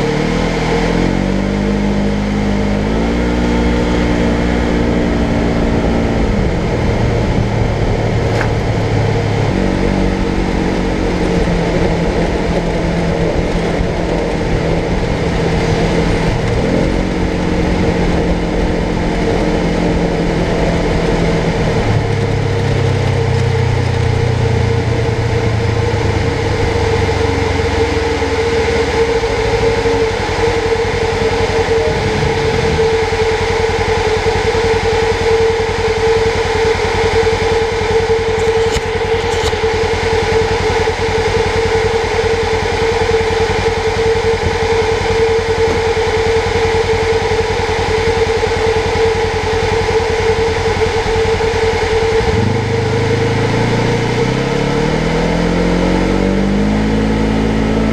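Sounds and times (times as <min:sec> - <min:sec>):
steady high whine: 0:00.0 - 0:57.9
vehicle engine revving: 0:00.0 - 0:57.9.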